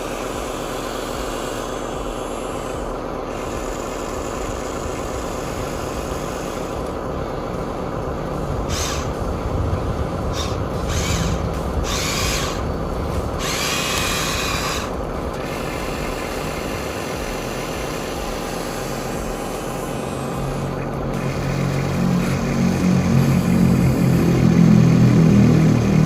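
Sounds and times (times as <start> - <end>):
toy electric motor whirring: 0.0 - 25.6
low hum: 0.0 - 26.0.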